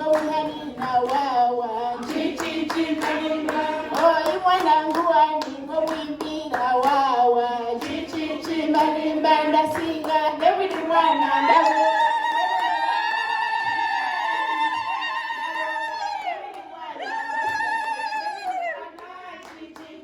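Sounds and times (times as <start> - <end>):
rhythmic hand clapping: 0.0 - 20.0
women singing together: 0.0 - 20.0.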